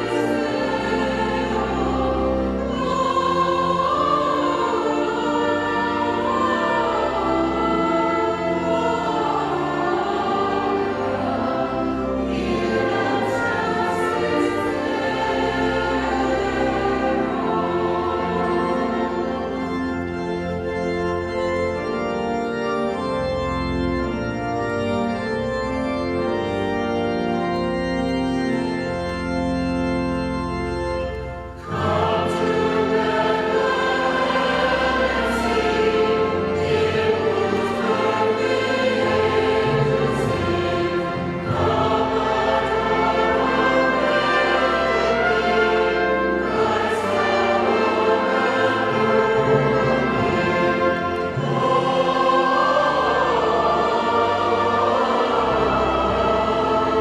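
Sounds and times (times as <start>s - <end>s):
choir singing sacred music: 0.0s - 57.0s
instrumental accompaniment: 0.0s - 57.0s.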